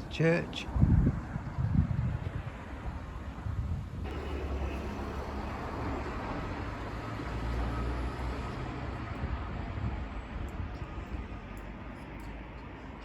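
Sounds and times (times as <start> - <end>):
vehicle passing with tyre noise: 0.8 - 13.0.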